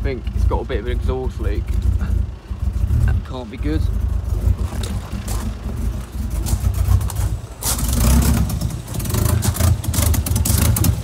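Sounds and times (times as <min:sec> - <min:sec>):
car engine idling: 0:00.0 - 0:11.0
exhaust puffs and ticks: 0:00.0 - 0:11.0.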